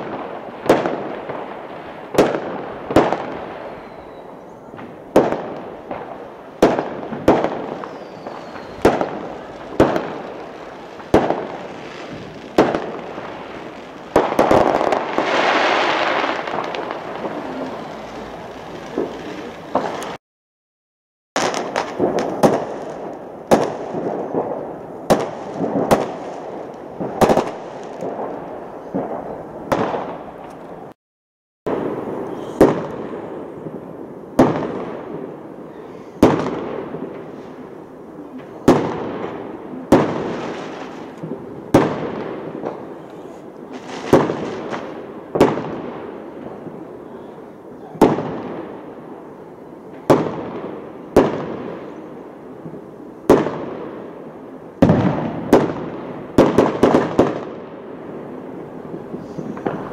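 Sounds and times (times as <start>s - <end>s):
fireworks bursting: 0.0s - 20.2s, 21.4s - 31.0s, 31.7s - 59.9s.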